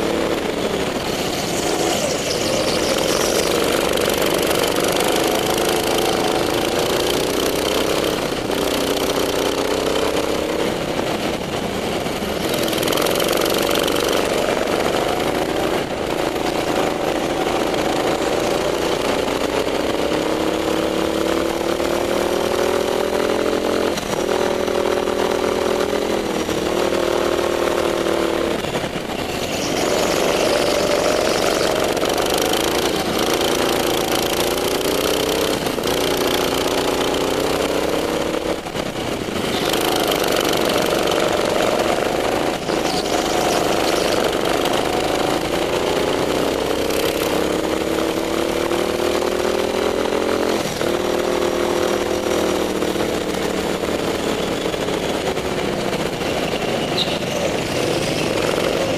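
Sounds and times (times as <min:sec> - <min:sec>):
kart engine revving: 0:00.0 - 0:58.9.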